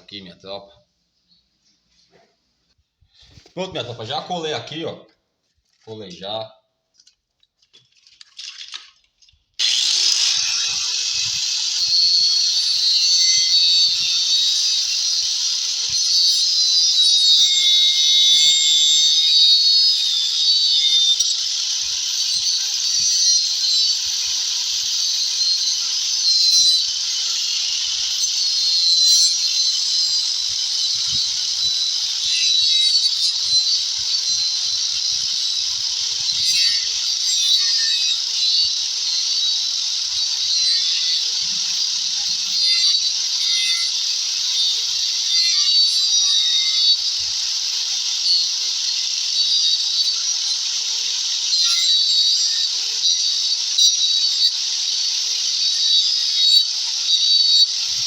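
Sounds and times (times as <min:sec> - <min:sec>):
power tool cutting wood: 0:09.6 - 0:58.0.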